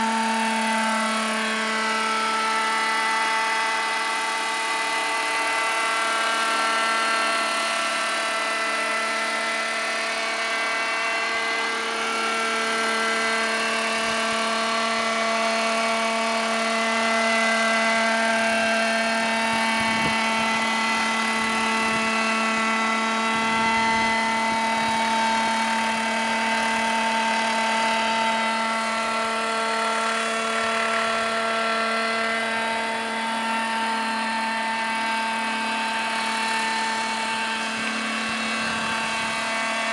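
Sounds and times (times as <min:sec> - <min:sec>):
model helicopter engine and rotors: 0:00.0 - 0:39.9.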